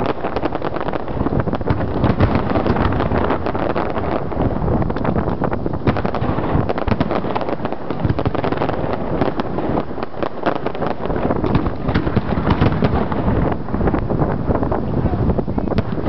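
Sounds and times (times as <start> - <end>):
fireworks bursting and crackling: 0.0 - 16.0
wind rumble on microphone: 0.0 - 16.0.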